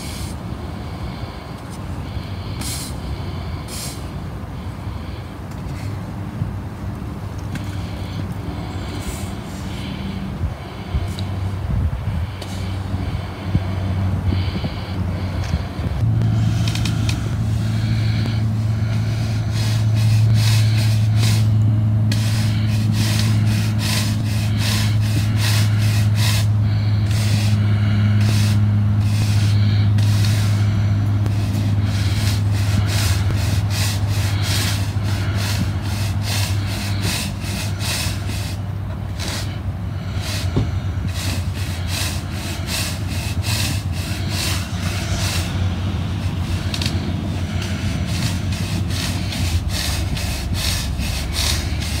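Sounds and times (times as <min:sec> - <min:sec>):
push broom scrubbing asphalt: 0:00.0 - 0:05.9, 0:07.2 - 0:52.0
vehicle engine idling: 0:00.0 - 0:52.0.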